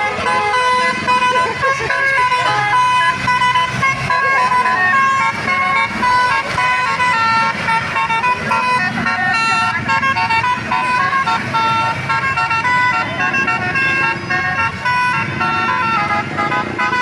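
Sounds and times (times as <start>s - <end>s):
bus horn playing melody: 0.0s - 17.0s.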